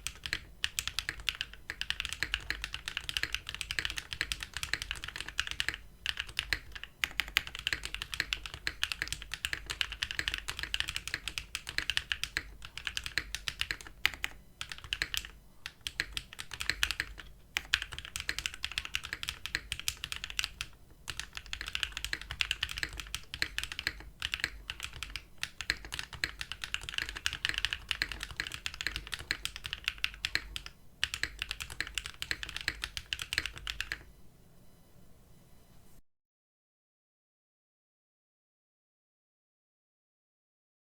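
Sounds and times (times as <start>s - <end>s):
mechanical keyboard typing: 0.0s - 34.1s.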